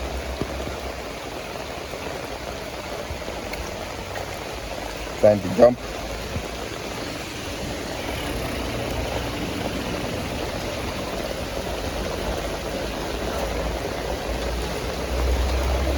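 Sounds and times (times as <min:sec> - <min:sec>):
heavy rain: 0:00.0 - 0:15.9
running water: 0:00.0 - 0:15.9.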